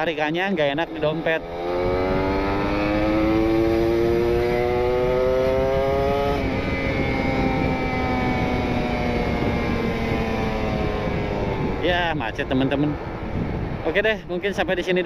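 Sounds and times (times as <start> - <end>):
wind on microphone: 0.0 - 15.0
two-stroke engine revving: 0.6 - 12.9.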